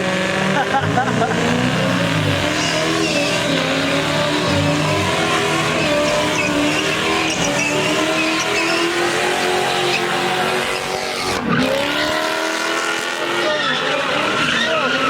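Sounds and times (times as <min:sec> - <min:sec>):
car engine at high revs: 0:00.0 - 0:15.0
tyres squealing: 0:01.2 - 0:15.0.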